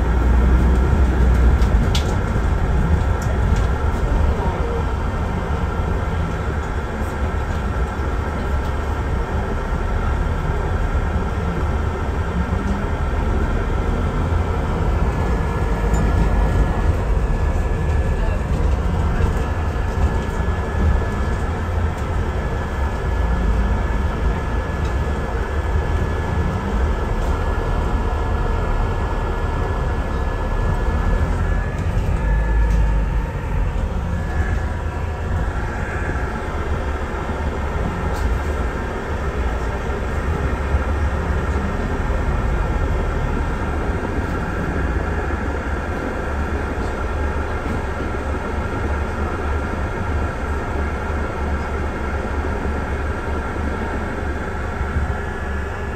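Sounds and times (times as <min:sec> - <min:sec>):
bus engine and road rumble: 0:00.0 - 0:55.9.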